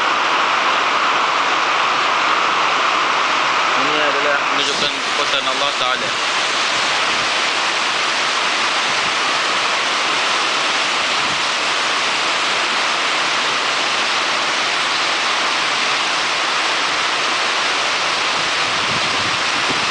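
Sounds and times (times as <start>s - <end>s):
fast-flowing water rushing: 0.0s - 19.9s
strong wind: 0.0s - 19.9s.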